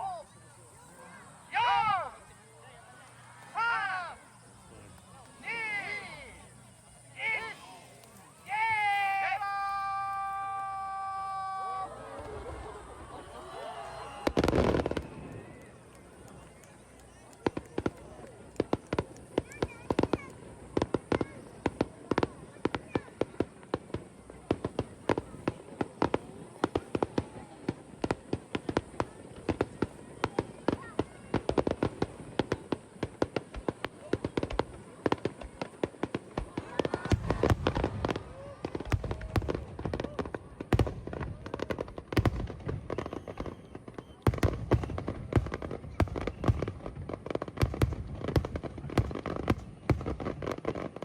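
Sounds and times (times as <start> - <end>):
fireworks bangs and pops: 4.4 - 51.0.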